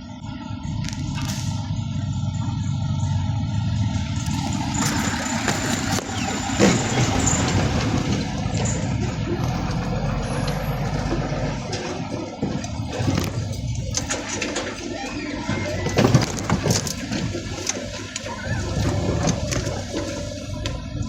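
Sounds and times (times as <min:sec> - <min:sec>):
garbage truck engine running: 0:00.0 - 0:21.0.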